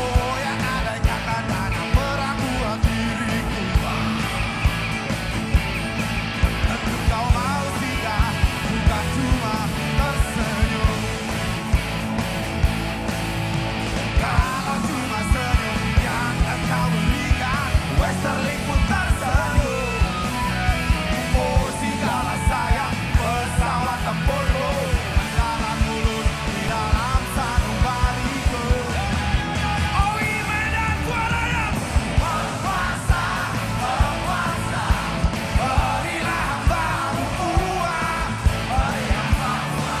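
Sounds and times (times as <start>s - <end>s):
person singing: 0.0s - 4.6s, 6.6s - 11.5s, 14.1s - 40.0s
crowd shouting: 0.0s - 40.0s
drums beating: 0.0s - 40.0s
electric guitars: 0.0s - 40.0s.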